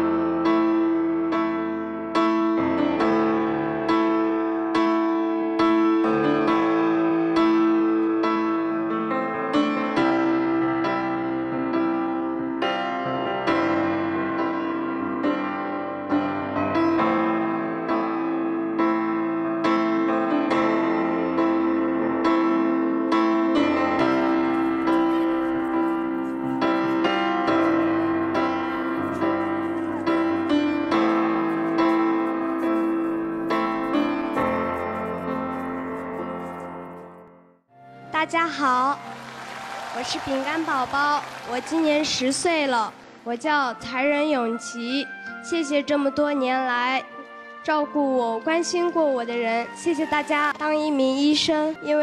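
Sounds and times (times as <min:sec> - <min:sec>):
background piano music: 0:00.0 - 0:52.0.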